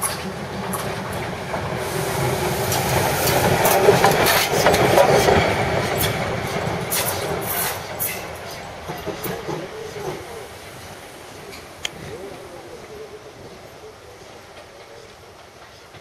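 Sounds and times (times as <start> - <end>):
steam locomotive rolling past: 0.0 - 16.0.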